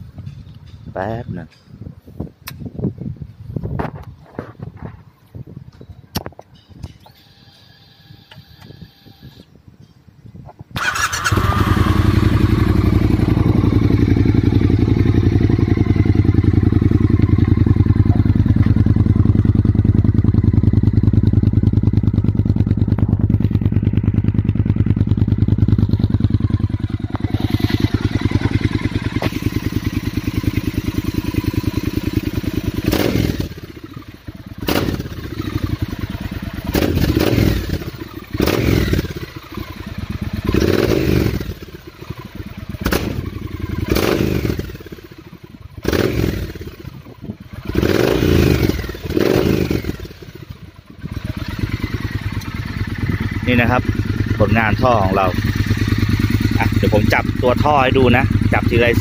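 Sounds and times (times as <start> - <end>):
engine throttle blips: 10.8 - 59.0
motorcycle engine idling: 10.8 - 59.0.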